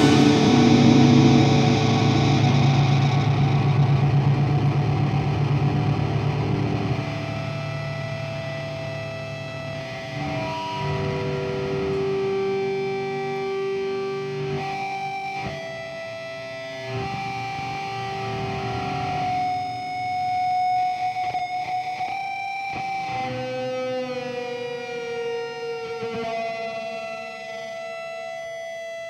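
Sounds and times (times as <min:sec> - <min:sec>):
post-rock electric guitar music: 0:00.0 - 0:29.0.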